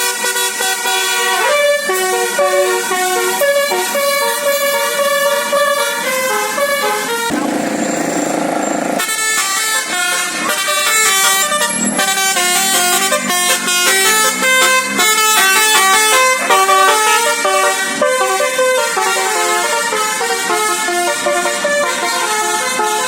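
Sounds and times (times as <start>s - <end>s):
bus multi-tone horn tune: 0.0s - 23.0s
harsh noisy horn blast: 0.1s - 23.0s.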